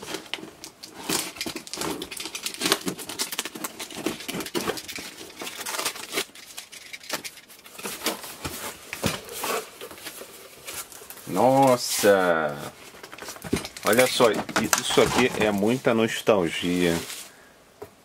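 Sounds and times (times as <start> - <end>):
crinkling of tape and plastic film: 0.0 - 17.3.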